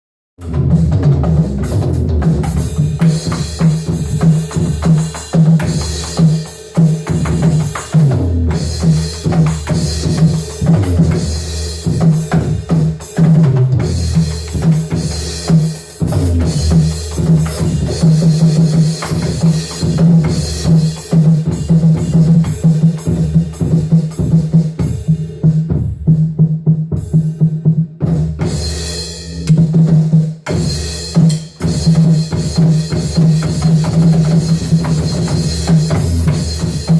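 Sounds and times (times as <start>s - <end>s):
drum kit groove: 0.4s - 36.9s.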